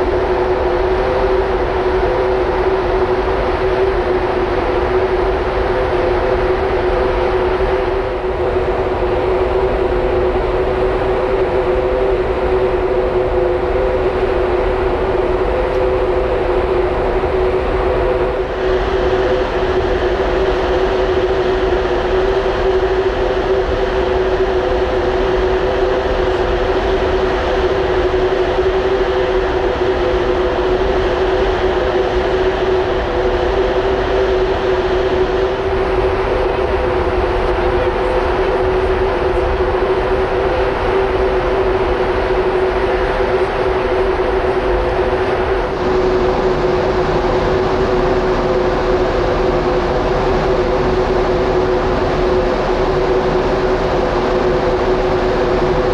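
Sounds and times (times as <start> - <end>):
ship machinery droning: 0.0 - 55.9.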